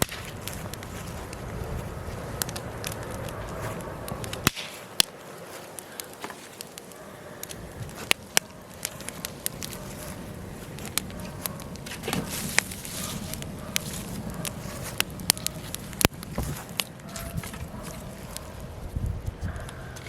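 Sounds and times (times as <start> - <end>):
fire crackling and popping: 0.0 - 20.0
low rumble of flames: 0.0 - 20.0
soft whoosh of flame: 0.0 - 20.0.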